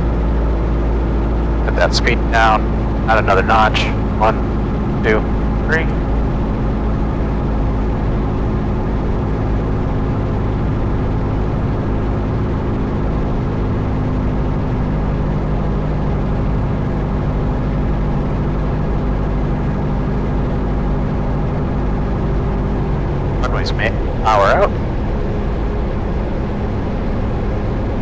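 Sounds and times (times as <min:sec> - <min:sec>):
airplane engine and propeller drone: 0:00.0 - 0:28.0.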